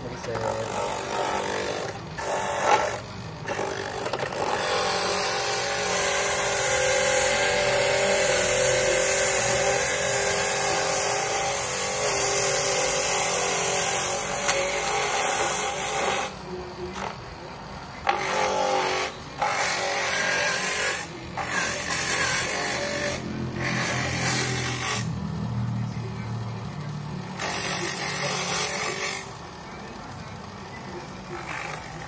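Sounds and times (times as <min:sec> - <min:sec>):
electric coconut grater running: 0:00.0 - 0:29.7, 0:31.2 - 0:32.0.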